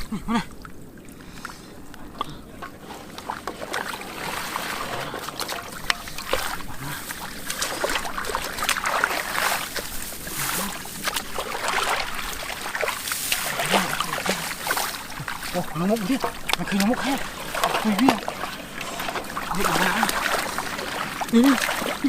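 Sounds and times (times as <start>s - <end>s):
muddy water splashing and sloshing: 0.0s - 22.0s.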